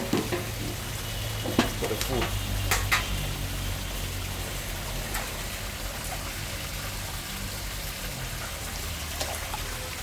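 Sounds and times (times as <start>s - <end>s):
water splashing into pond: 0.0s - 10.0s.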